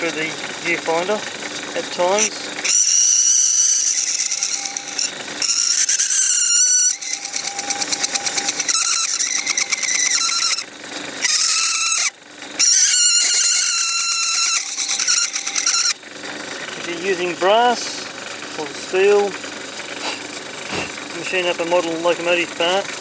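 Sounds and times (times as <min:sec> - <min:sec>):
lathe tool squealing: 0:00.0 - 0:23.0.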